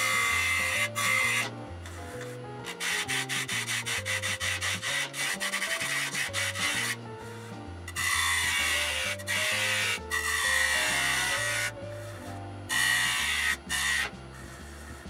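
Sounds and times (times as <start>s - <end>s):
lathe tool cutting wood: 0.0s - 15.0s
soft background music: 0.0s - 15.0s.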